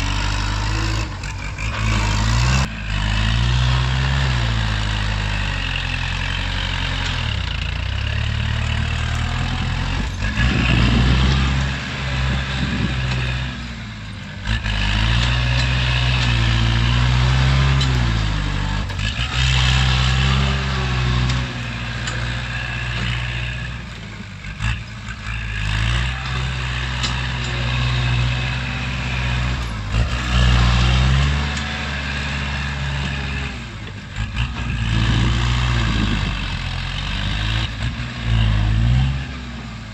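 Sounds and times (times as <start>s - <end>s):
tractor diesel engine working: 0.0s - 39.9s.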